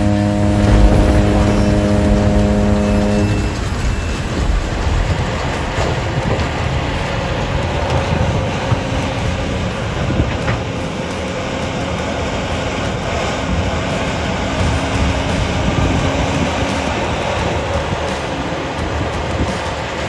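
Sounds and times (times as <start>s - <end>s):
excavator diesel engine rumbling: 0.0s - 20.0s.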